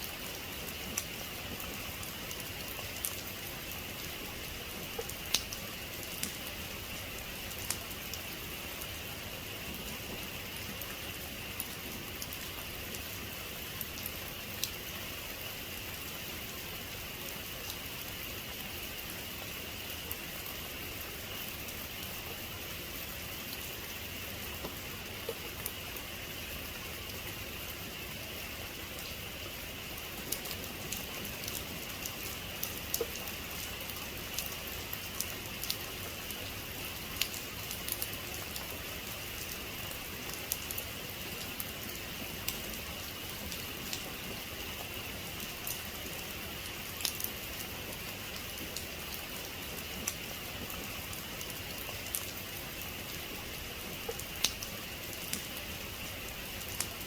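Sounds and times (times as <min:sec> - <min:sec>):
heavy rain falling: 0:00.0 - 0:57.0
sharp ticks of raindrops: 0:00.0 - 0:57.0.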